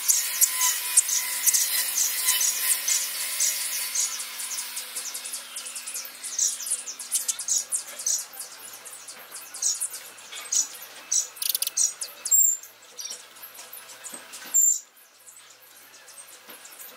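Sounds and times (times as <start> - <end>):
sparrows chirping: 0.0 - 16.9.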